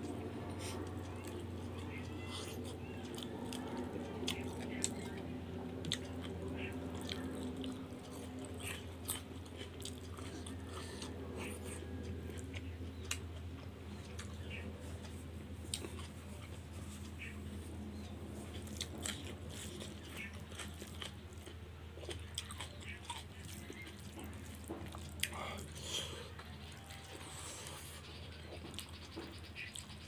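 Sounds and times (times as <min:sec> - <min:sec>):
person chewing food: 0:00.0 - 0:30.0
steady low hum: 0:00.0 - 0:30.0.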